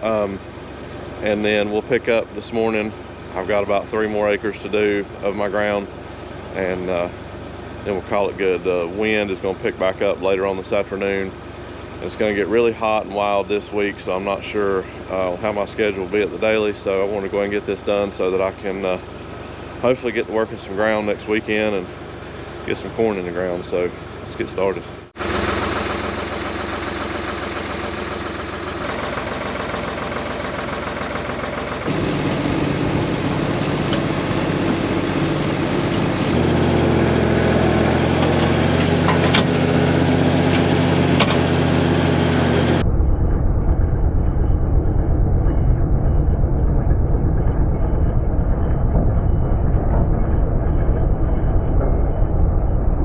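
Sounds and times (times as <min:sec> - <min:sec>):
tractor engine running: 0:00.0 - 0:42.9, 0:44.6 - 0:53.0
heavy low rumble: 0:00.0 - 0:53.0.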